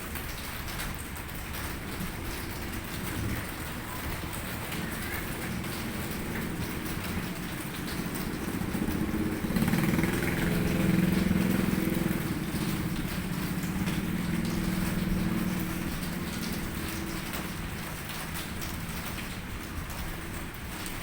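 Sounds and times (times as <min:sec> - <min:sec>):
steady rain: 0:00.0 - 0:21.0
vehicle engine passing: 0:01.6 - 0:20.6.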